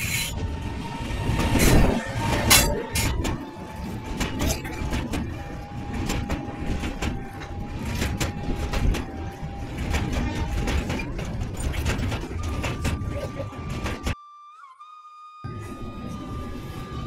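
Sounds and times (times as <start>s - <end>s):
train rumbling over bridge: 0.0s - 14.2s, 15.5s - 17.0s.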